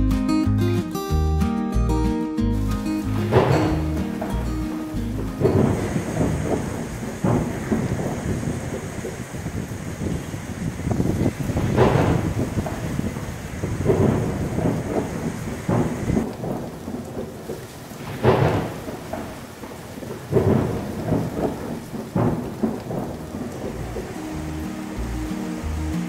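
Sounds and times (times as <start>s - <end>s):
river rushing: 2.5s - 17.0s, 17.7s - 26.0s
wind buffeting microphone: 3.1s - 26.0s.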